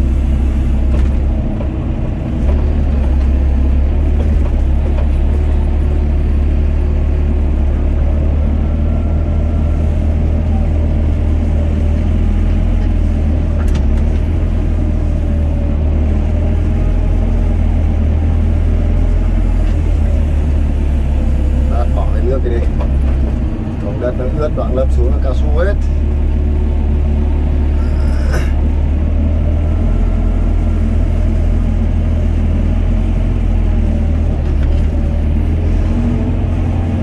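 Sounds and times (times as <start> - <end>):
excavator diesel engine droning: 0.0 - 37.0.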